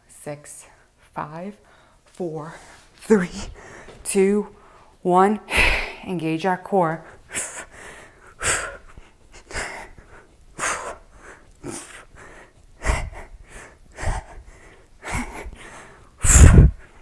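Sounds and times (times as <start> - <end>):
woman breathing heavily: 0.6 - 6.1, 7.0 - 17.0.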